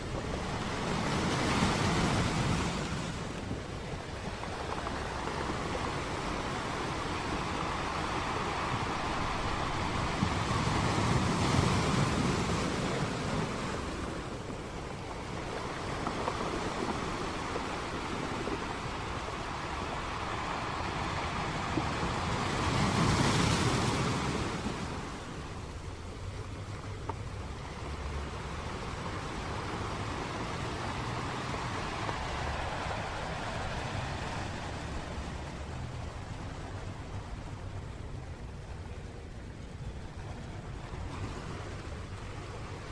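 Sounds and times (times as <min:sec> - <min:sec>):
waves washing onto beach: 0:00.0 - 0:42.9.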